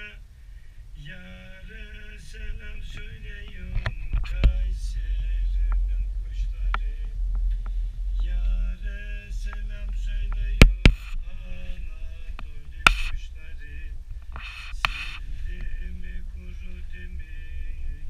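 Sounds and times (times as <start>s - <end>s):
man singing slow song: 0.0s - 0.2s, 1.0s - 7.2s, 8.1s - 18.0s
low steady rumble: 0.0s - 18.0s.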